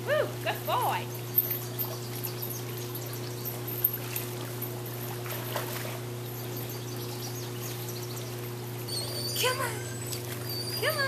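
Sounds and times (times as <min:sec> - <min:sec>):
steady low hum: 0:00.0 - 0:11.0
dog swimming and splashing: 0:01.1 - 0:11.0.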